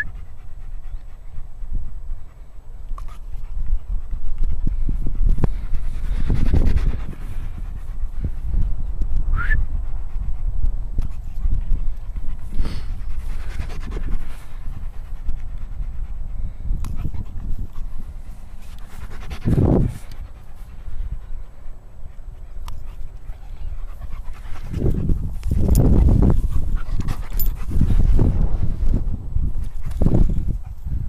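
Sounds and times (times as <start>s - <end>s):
dog panting: 0.0s - 8.8s, 9.8s - 31.0s.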